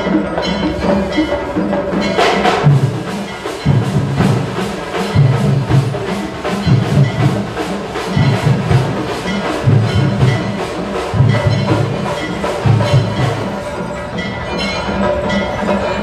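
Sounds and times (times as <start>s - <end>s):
deep drum pattern: 0.0s - 16.0s
percussion music: 0.0s - 16.0s
sharp percussion strokes: 0.0s - 16.0s.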